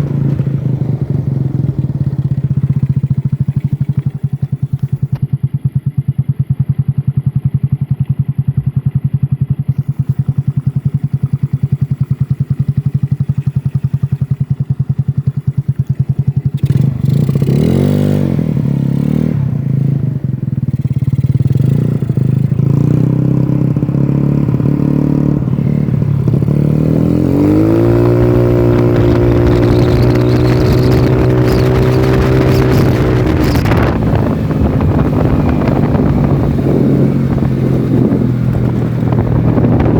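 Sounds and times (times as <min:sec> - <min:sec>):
scooter engine idling and revving: 0:00.0 - 0:39.9.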